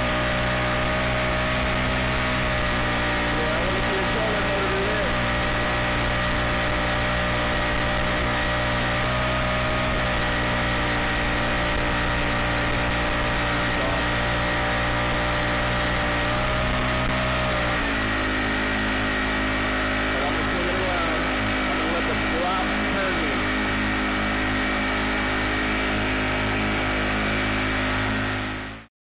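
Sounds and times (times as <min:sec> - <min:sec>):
small four-stroke engine running: 0:00.0 - 0:28.9.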